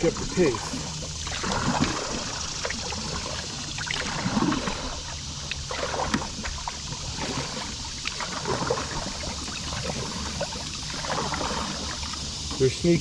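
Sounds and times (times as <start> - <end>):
water splashing and dripping: 0.0 - 12.7
paddle stroke splashes: 0.0 - 13.0.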